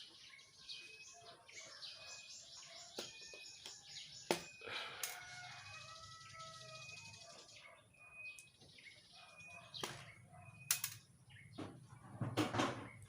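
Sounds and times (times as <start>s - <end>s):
birds chirping whistled notes: 0.0s - 11.6s.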